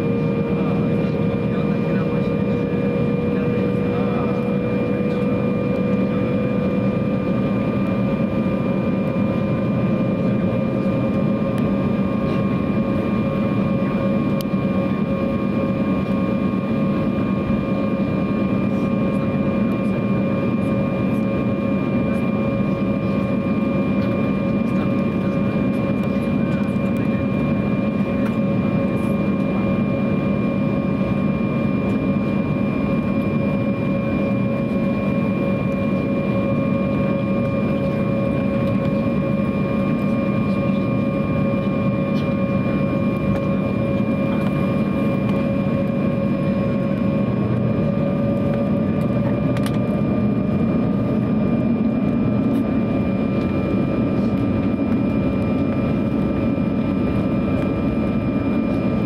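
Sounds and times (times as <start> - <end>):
aircraft cabin rumble: 0.0 - 59.0
high jet engine whine: 0.0 - 59.0.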